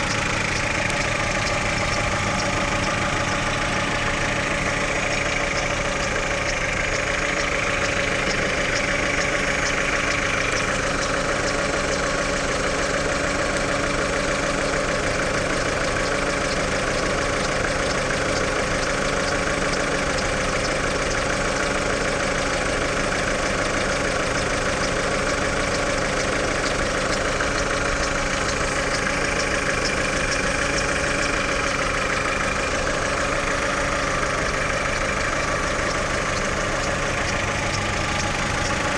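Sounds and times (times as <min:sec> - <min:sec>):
car engine idling: 0:00.0 - 0:38.9
fine rapid engine ticking: 0:00.0 - 0:38.9.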